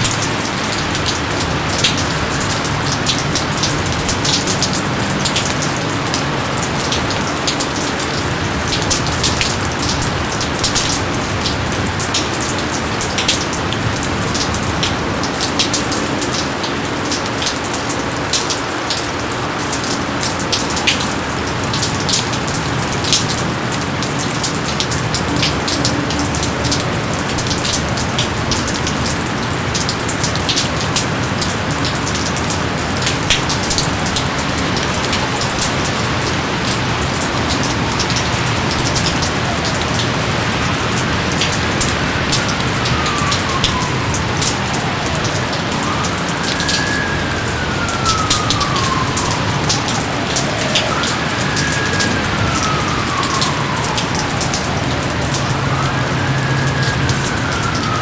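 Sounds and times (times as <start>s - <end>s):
hiss of downpour: 0.0s - 58.0s
rain drops ticking: 0.0s - 58.0s.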